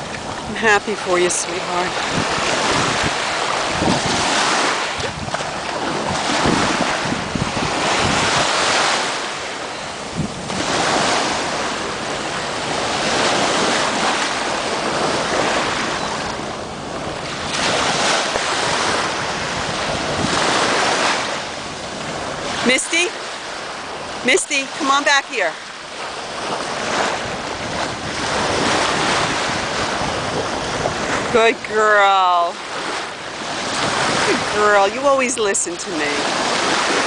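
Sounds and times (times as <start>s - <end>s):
small waves washing ashore: 0.0s - 37.0s
wind buffeting microphone: 0.0s - 37.0s.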